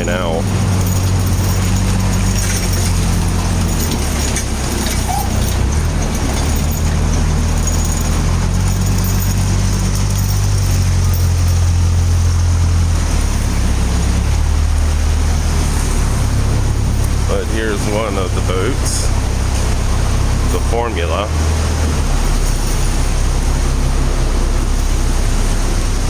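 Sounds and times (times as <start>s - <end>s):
large engine humming: 0.0s - 26.0s.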